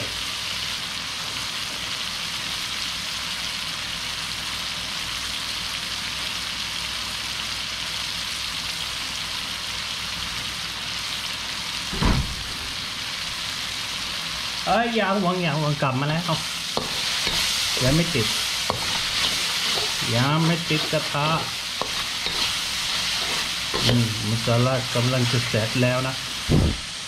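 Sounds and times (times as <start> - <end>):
paste sizzling in a wok: 0.0 - 27.0.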